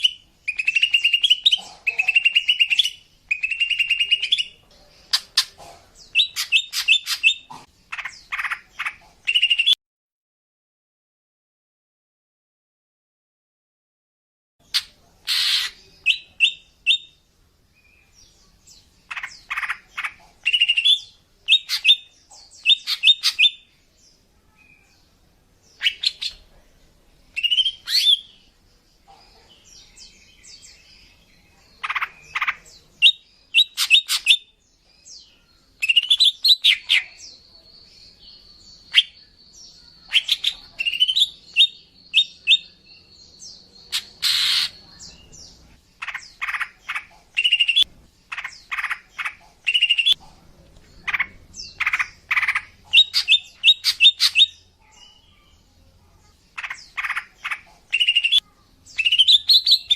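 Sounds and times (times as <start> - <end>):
bird chirping calls: 0.0 - 9.8, 14.6 - 59.9.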